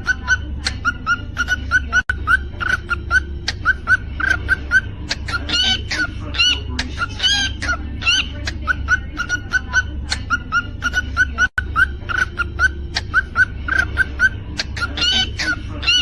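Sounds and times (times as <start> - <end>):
cockatiel chirping and whistling: 0.0 - 16.0
low steady hum: 0.0 - 16.0.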